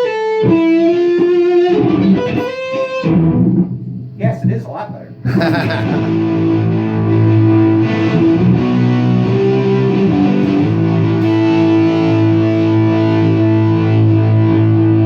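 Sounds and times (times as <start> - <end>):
electric guitar chords: 0.0 - 4.4, 5.1 - 15.0.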